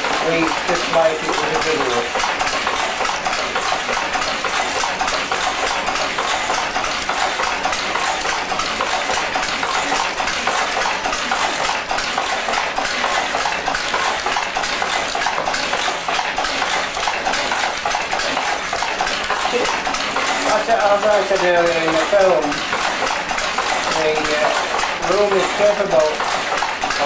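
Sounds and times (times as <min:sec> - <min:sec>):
loom weaving clatter: 0:00.0 - 0:27.0.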